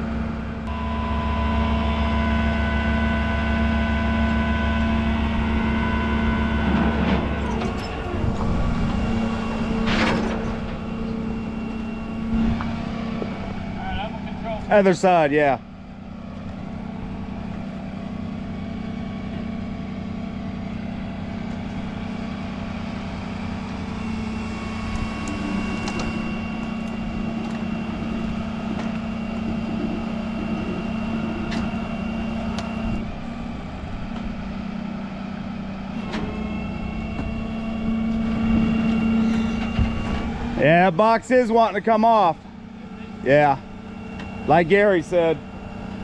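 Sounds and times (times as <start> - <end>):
high steady whine: 0.0 - 46.0
truck engine running: 0.0 - 46.0.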